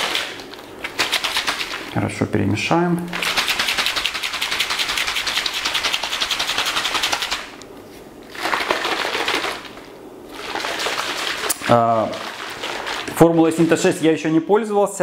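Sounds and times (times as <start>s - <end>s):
liquid sloshing in shaker bottle: 0.0s - 2.0s, 3.1s - 7.6s, 8.2s - 14.2s.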